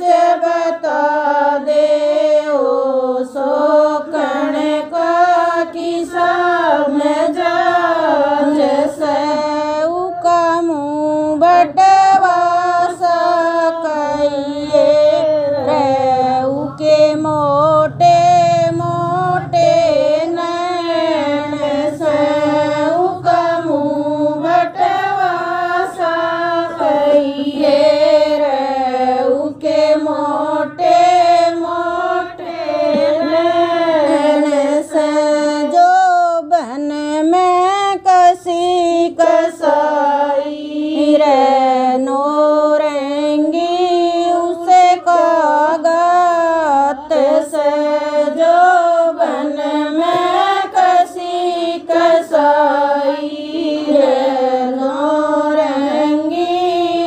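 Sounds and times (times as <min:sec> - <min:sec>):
women singing folk song: 0:00.0 - 0:57.0.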